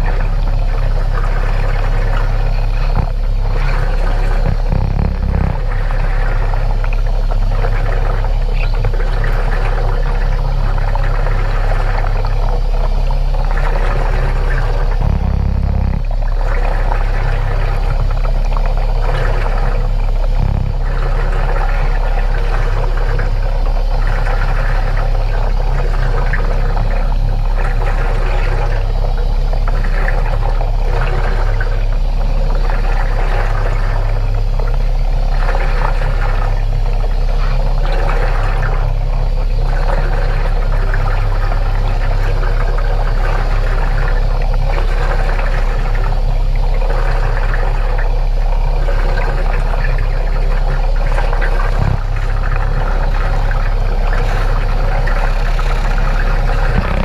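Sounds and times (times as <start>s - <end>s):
steady low hum: 0.0s - 57.0s
underwater air bubbling: 0.0s - 57.0s.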